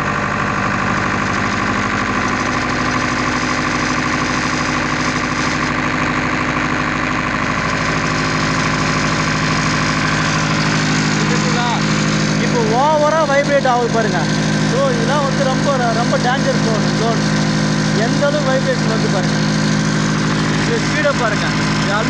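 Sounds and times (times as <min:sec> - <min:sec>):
mudguard vibrating: 0:00.0 - 0:22.0
tractor diesel engine running: 0:00.0 - 0:22.0.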